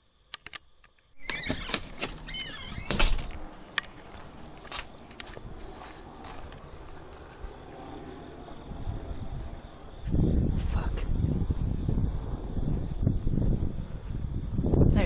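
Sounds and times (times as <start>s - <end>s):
insects singing: 0.0s - 15.0s.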